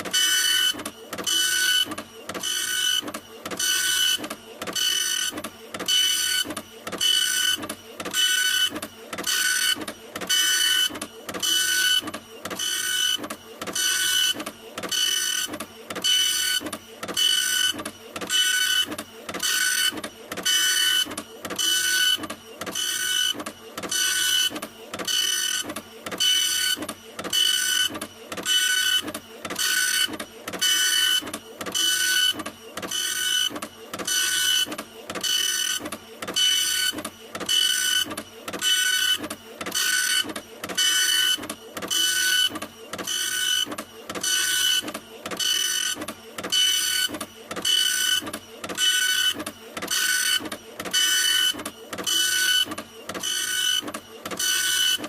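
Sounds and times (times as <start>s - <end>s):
printer whirring: 0.0s - 55.0s.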